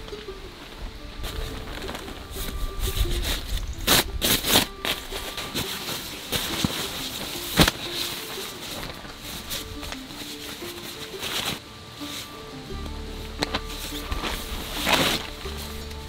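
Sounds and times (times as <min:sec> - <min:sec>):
plastic tarp and fabric rustling: 0:00.0 - 0:16.0
sharp plastic crackles: 0:01.0 - 0:16.0.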